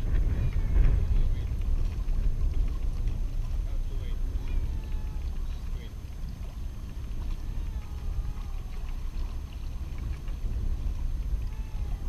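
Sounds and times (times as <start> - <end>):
waves washing against rocks: 0.0 - 12.0
wind buffeting microphone: 0.0 - 12.0.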